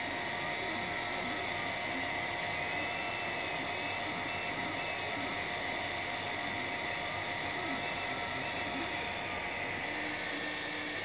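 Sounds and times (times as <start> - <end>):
cooling fans whirring: 0.0 - 11.0.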